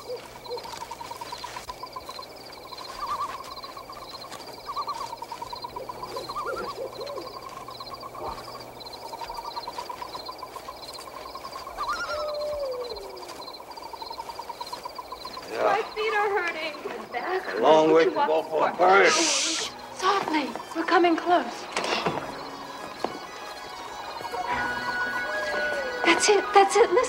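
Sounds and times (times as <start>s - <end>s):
owl hooting: 0.0s - 17.7s, 18.9s - 27.0s
frogs and insects trilling: 0.0s - 27.0s.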